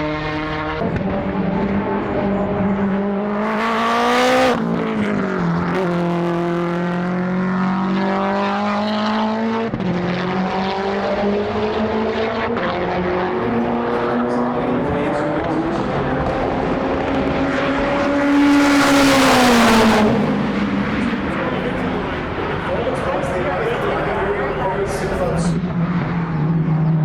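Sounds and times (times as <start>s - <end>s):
race car accelerating: 0.0s - 27.0s.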